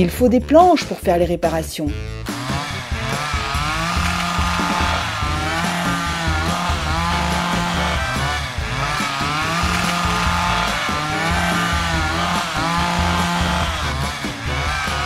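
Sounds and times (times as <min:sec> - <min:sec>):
background music with low beat: 0:00.0 - 0:15.0
chainsaw running and revving: 0:02.2 - 0:15.0.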